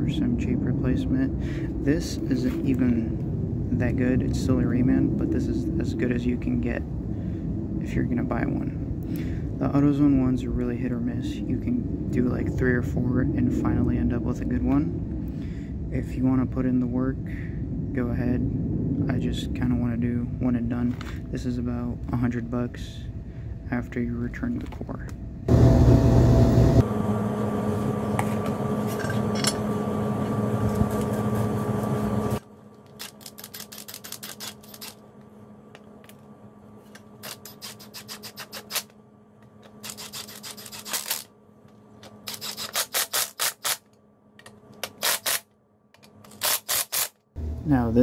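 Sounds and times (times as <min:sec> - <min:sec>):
loud steady noise with low hum: 0:00.0 - 0:48.0.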